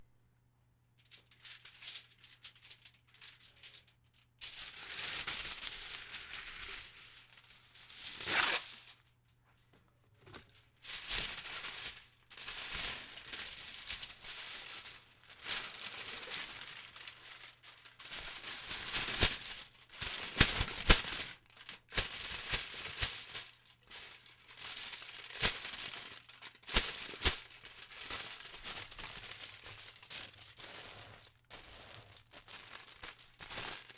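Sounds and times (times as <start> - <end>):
aluminum foil crumpling: 1.3 - 3.8, 4.5 - 9.0, 10.4 - 33.9.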